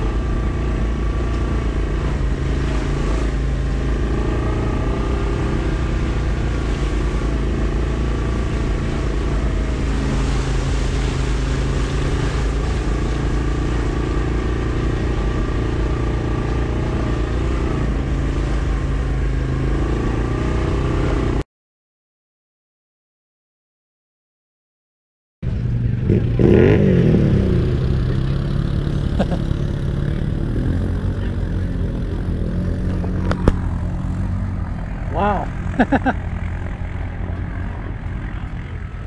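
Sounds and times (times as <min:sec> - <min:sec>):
atv engine running: 0:00.0 - 0:21.4, 0:25.4 - 0:39.0.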